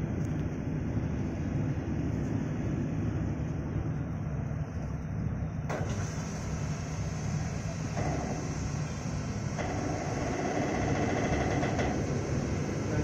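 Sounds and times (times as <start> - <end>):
ship diesel engine rumbling: 0.6 - 13.0.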